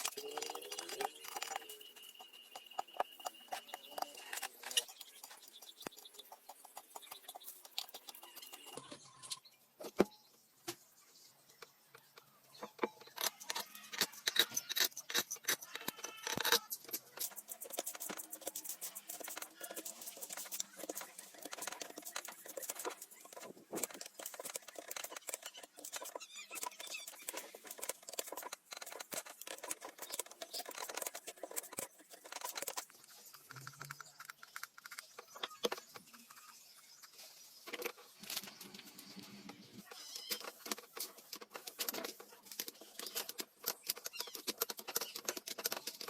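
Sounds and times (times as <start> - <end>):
clicking and scraping on metal parts: 0.0 - 8.9, 11.6 - 46.0.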